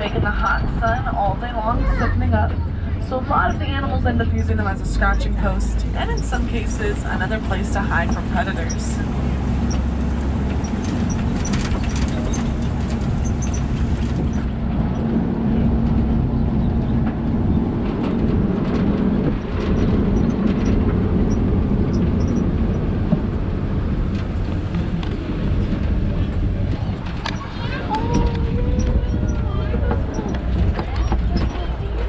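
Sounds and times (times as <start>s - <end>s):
truck engine rumble: 0.0s - 32.0s
vehicle rattles and knocks: 0.0s - 32.0s.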